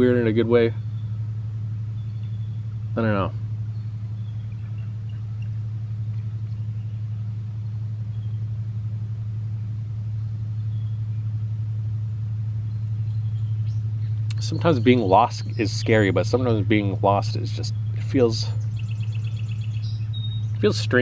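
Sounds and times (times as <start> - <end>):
pulsing low motor drone: 0.0 - 21.0.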